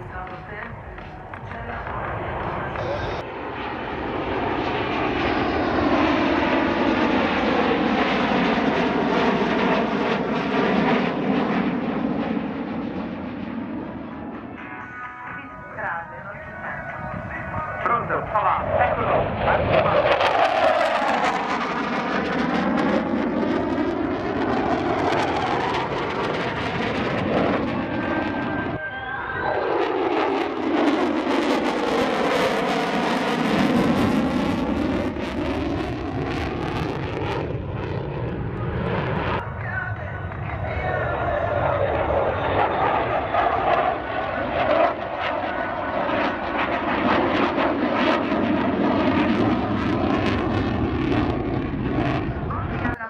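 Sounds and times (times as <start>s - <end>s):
jet flyby rumble with crackle: 0.0s - 53.0s.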